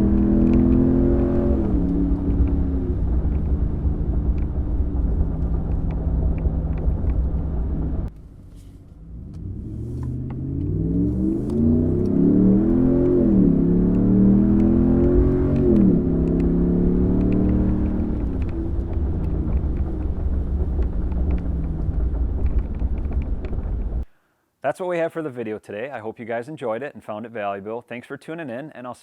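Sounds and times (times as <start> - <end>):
truck exhaust drone from cabin: 0.0 - 24.1.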